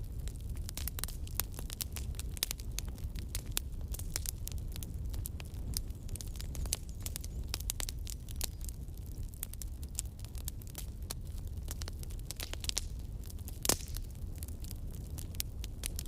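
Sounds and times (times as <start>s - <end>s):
campfire crackling and popping: 0.0s - 16.0s
fire low rumble: 0.0s - 16.0s.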